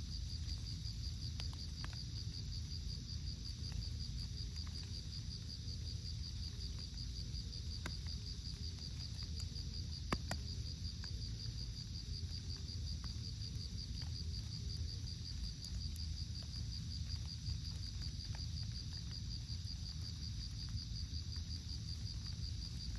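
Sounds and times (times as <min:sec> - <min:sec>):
insect chirping trill: 0:00.0 - 0:22.9.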